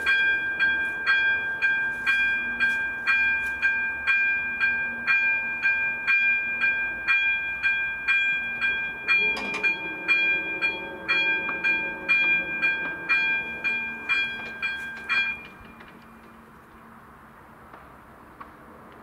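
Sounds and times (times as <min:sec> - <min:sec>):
level crossing warning bell: 0:00.0 - 0:16.6.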